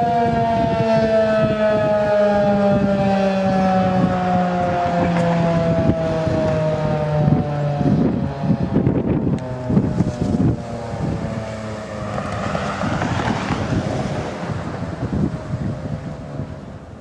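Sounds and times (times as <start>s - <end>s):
warning siren winding down: 0.0s - 17.0s
wind buffeting microphone: 0.0s - 17.0s.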